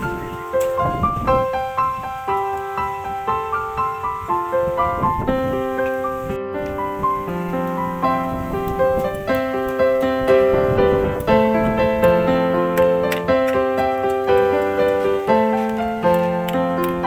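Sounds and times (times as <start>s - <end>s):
calm piano melody: 0.0s - 17.0s.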